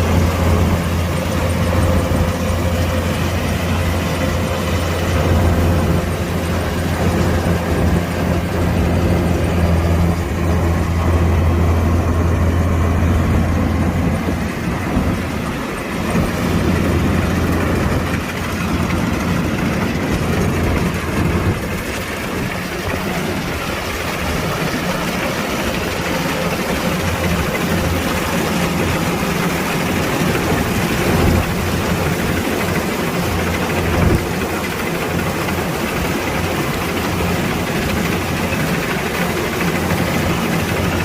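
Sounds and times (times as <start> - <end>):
diesel engine humming: 0.0 - 41.0.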